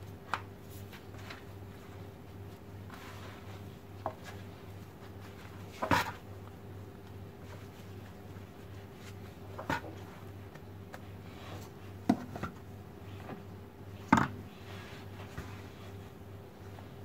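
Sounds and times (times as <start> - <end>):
hands kneading dough: 0.0 - 17.0
steady low hum: 0.0 - 17.0.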